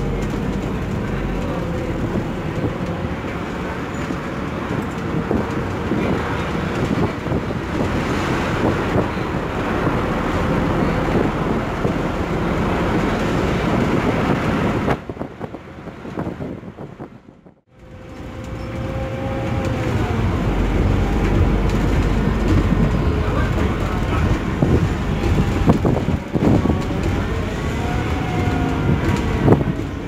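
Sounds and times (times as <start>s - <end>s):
bus engine and road noise: 0.0s - 30.0s.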